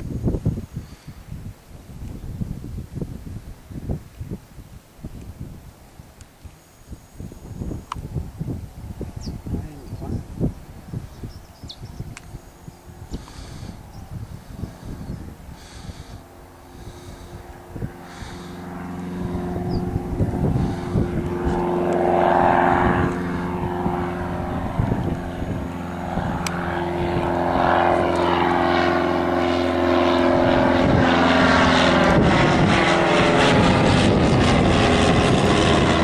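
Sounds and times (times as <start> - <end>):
propeller plane engine in flight: 0.0 - 36.0.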